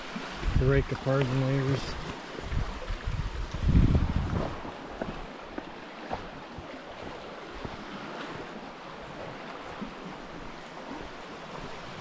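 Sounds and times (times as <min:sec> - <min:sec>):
waves washing on rocky shore: 0:00.0 - 0:12.0
wind on microphone: 0:00.0 - 0:12.0.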